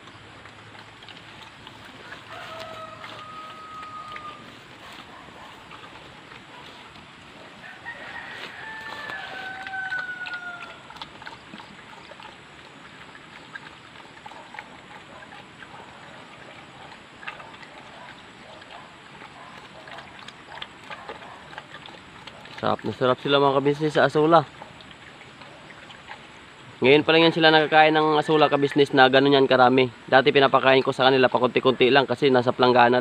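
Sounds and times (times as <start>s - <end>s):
pig chewing and slurping: 0.0s - 33.0s.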